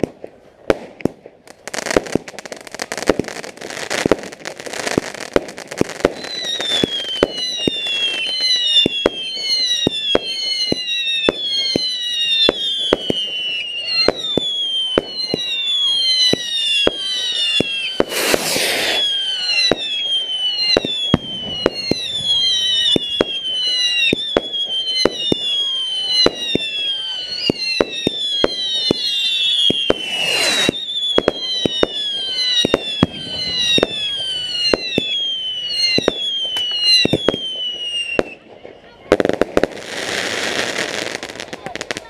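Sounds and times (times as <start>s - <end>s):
fireworks bangs: 0.0s - 42.0s
fireworks rushing bursts: 0.0s - 42.0s
fireworks whistling: 1.5s - 42.0s.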